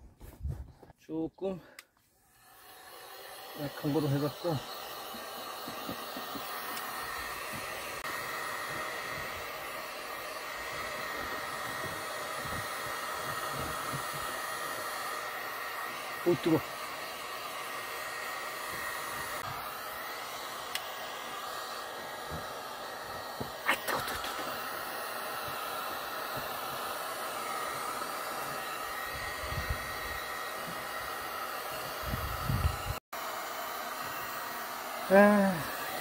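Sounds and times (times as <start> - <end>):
heat gun blowing: 1.7 - 36.0.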